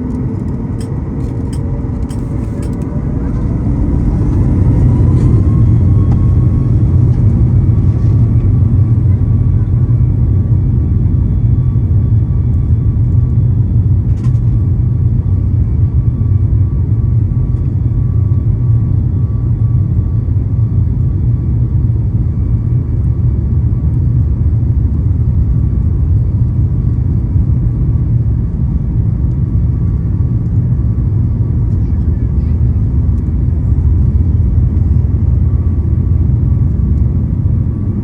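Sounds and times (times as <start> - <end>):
airplane cabin rumble: 0.0 - 38.0
faint engine whine: 0.0 - 38.0.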